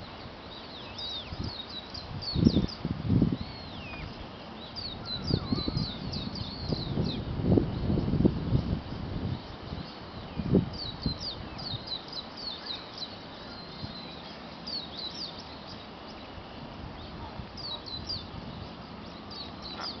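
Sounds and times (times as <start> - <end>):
small birds chirping: 0.0 - 20.0
steady outdoor hiss: 0.0 - 20.0.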